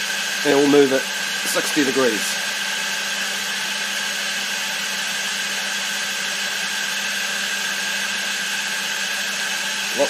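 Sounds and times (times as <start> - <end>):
milling machine running idle: 0.0 - 10.0.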